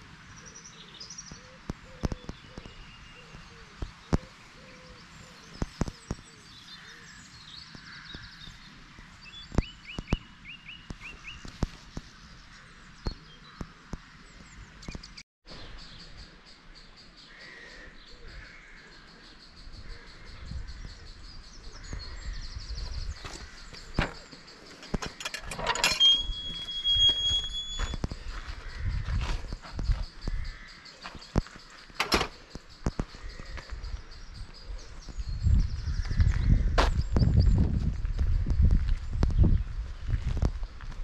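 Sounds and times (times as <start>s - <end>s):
songbirds singing and chirping: 0.0s - 41.0s.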